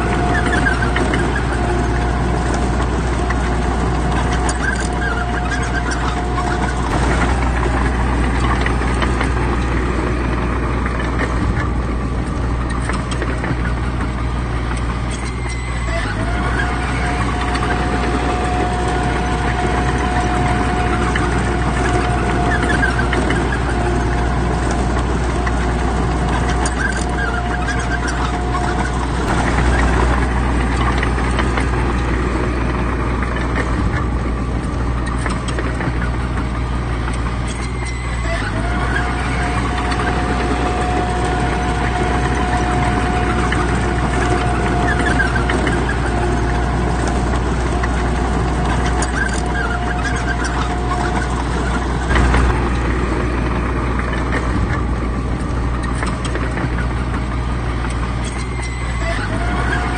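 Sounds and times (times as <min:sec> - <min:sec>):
heavy machinery engine rumble: 0:00.0 - 0:59.9
thin steady whine: 0:04.0 - 0:59.9.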